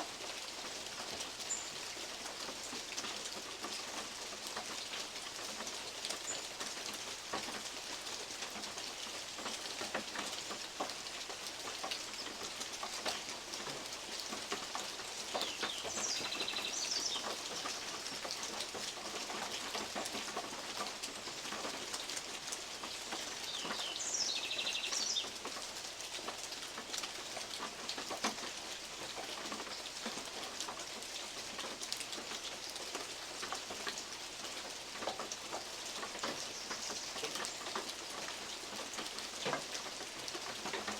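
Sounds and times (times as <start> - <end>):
steady rain in woodland: 0.0 - 40.9.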